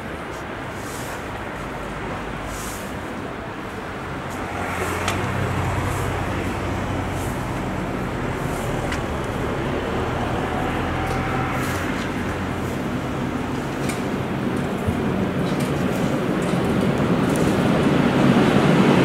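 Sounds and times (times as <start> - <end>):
locomotive low hum: 0.0 - 19.0
wheels rumbling on rails: 0.0 - 19.0.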